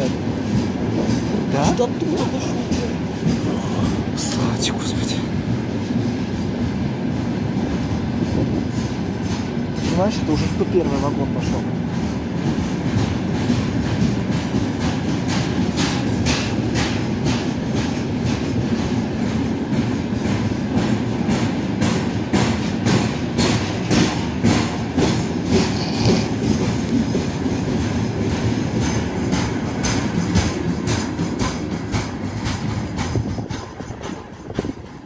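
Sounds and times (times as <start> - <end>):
wheels clacking over rail joints: 0.0 - 4.5, 5.5 - 35.0
freight train rumbling past: 0.0 - 35.0.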